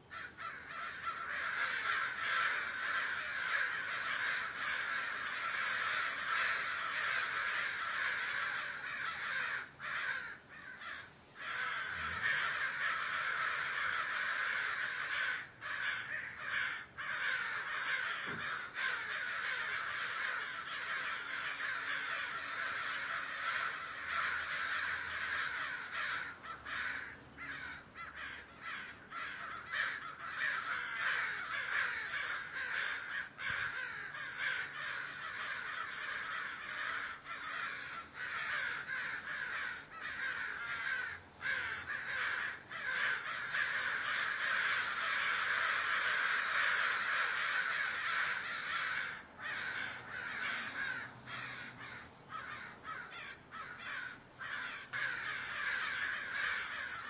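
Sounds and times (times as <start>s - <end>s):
crows cawing: 0.0s - 57.0s.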